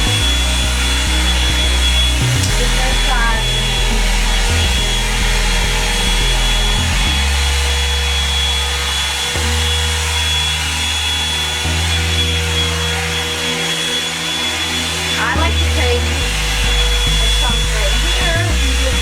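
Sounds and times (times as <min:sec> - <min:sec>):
hot-air brush blowing: 0:00.0 - 0:19.0.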